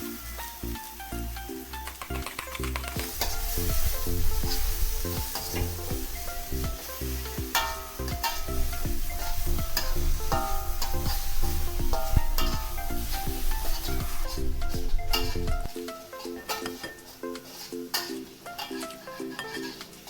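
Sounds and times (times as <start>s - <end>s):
background music: 0.0s - 20.0s
food sizzling in a pan: 0.0s - 20.0s
utensil scraping a pan: 3.1s - 20.0s.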